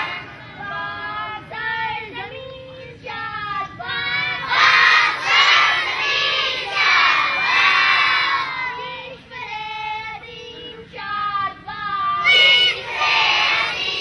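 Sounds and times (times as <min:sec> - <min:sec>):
girls singing together: 0:00.0 - 0:14.0.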